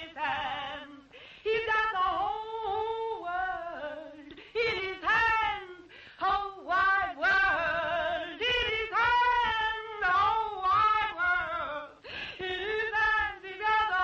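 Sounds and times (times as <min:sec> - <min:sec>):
high voice singing: 0:00.0 - 0:14.0.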